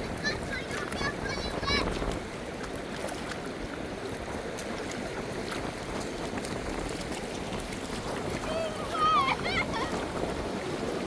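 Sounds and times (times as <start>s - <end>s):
surf on a beach: 0.0s - 11.0s.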